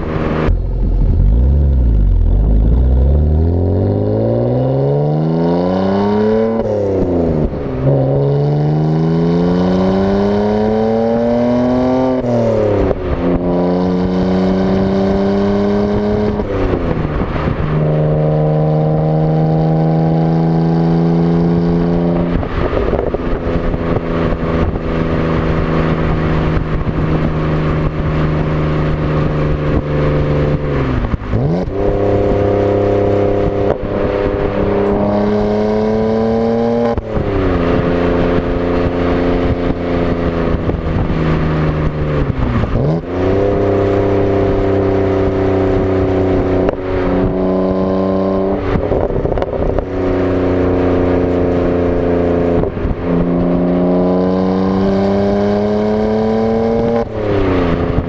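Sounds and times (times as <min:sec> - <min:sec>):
car exhaust revving: 0:00.0 - 0:58.0.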